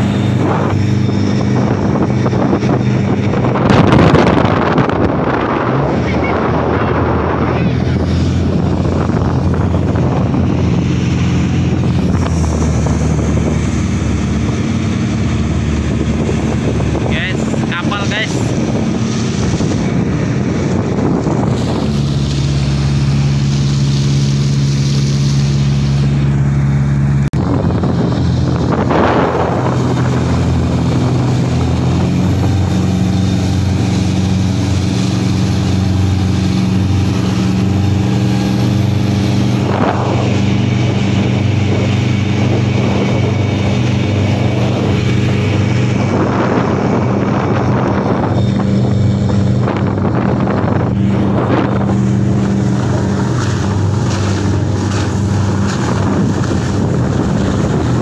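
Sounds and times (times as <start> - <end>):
motorboat engine running: 0.0 - 58.0
water rushing along hull: 0.0 - 58.0.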